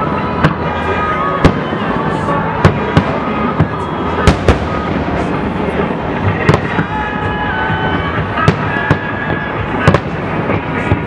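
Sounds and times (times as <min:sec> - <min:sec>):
continuous noisy rumble: 0:00.0 - 0:11.0
fireworks bangs: 0:00.0 - 0:11.0.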